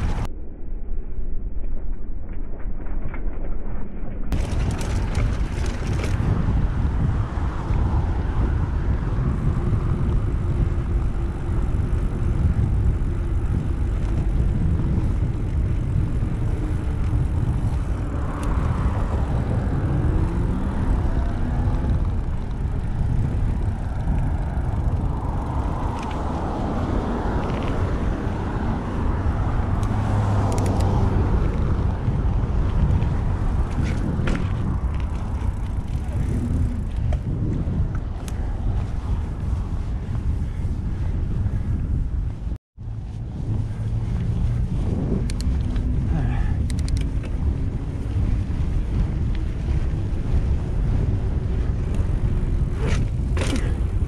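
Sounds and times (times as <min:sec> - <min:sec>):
road traffic: 0:00.0 - 0:00.3, 0:04.3 - 0:54.0
wind rumble on microphone: 0:00.0 - 0:54.0
motor vehicle passing: 0:04.4 - 0:54.0.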